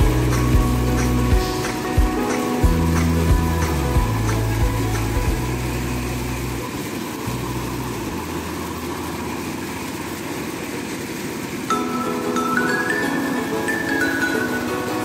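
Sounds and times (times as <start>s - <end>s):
corn thresher running: 0.0s - 15.0s.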